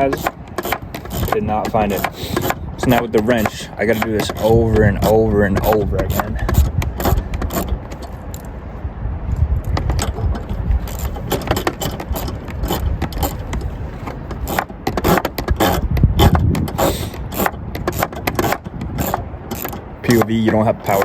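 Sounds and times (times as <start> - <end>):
wrench clicking on bolts: 0.0 - 8.5, 9.7 - 21.0
low handling rumble: 0.0 - 21.0.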